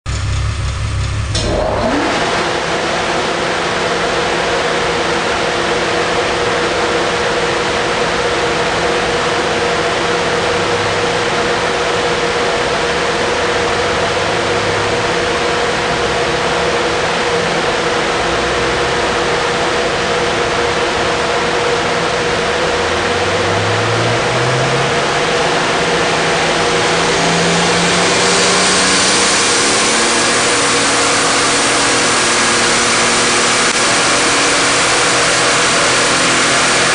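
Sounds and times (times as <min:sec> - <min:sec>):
car engine under load: 0:00.0 - 0:36.9.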